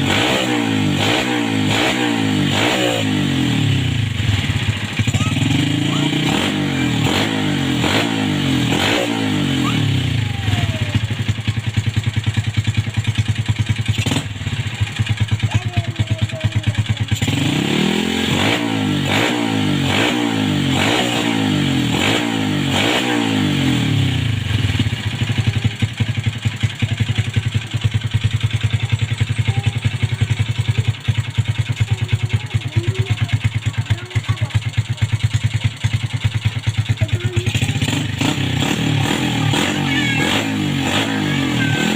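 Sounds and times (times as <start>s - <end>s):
motorcycle engine revving and idling: 0.0s - 41.9s.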